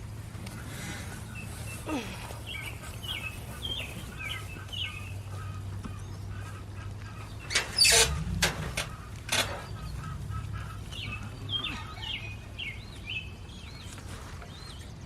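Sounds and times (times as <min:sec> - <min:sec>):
low steady hum: 0:00.0 - 0:15.0
chicks peeping: 0:00.4 - 0:14.9.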